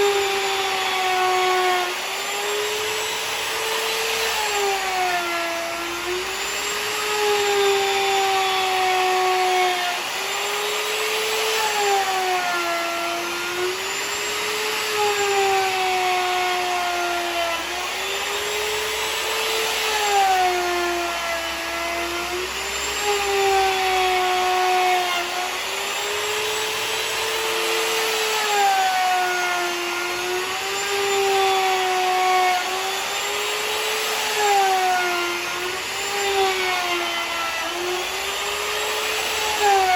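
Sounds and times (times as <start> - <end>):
electric router milling wood: 0.0 - 39.9.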